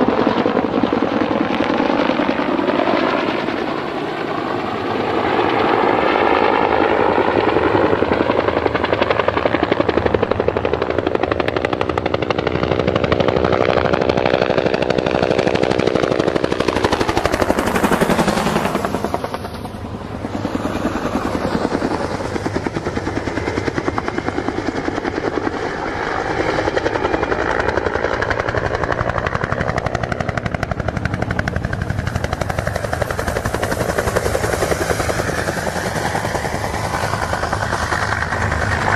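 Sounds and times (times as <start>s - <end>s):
helicopter rotor blade chop: 0.0s - 38.9s.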